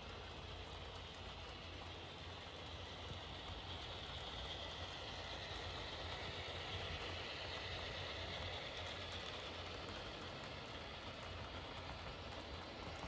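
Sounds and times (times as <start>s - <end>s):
model train motors and wheels whirring: 0.0s - 13.0s.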